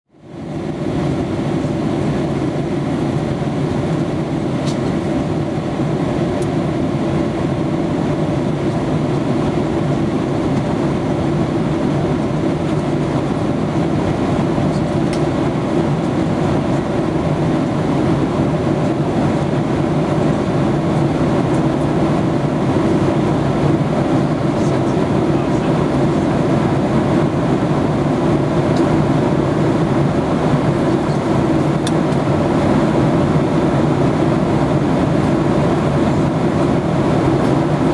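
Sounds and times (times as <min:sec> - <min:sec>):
jet cabin engine rumble: 0:00.1 - 0:37.9.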